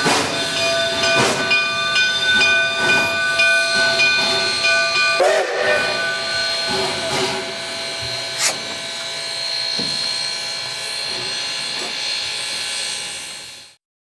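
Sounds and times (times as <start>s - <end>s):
steam hissing: 0.0s - 13.8s.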